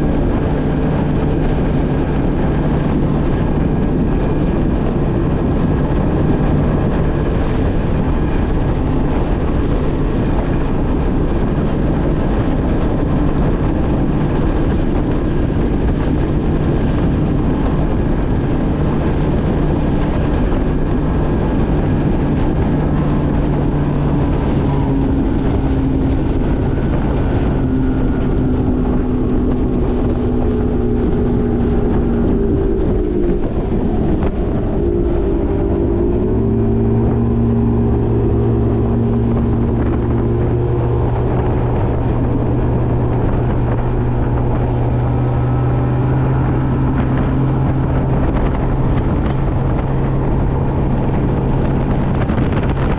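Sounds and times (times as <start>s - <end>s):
loud rushing noise: 0.0s - 52.9s
outboard motor running: 0.0s - 52.9s.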